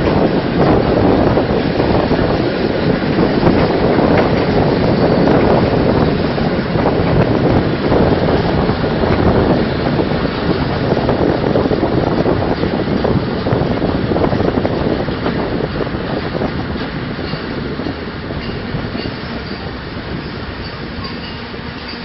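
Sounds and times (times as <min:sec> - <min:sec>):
train rumbling on track: 0:00.0 - 0:22.0
wind buffeting microphone: 0:00.0 - 0:22.0.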